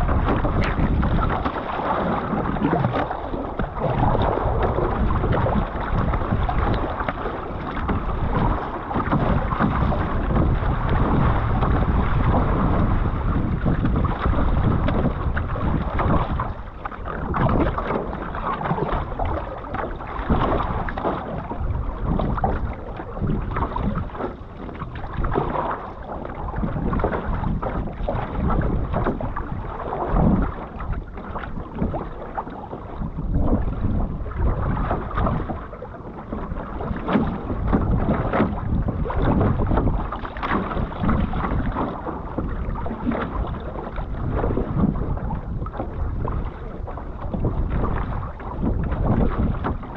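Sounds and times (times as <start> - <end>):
water rushing along canoe hull: 0.0 - 49.9.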